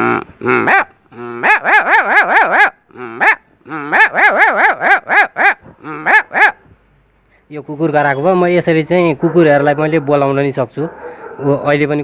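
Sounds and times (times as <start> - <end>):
man imitating dog barks: 0.0 - 6.7, 9.0 - 12.0.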